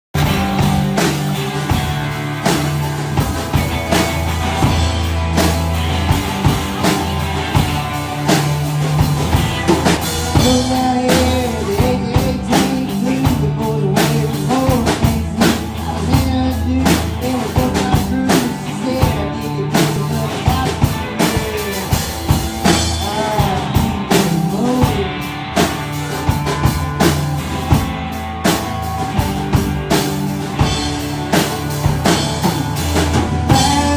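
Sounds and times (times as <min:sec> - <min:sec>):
rock band playing live: 0:00.1 - 0:33.9.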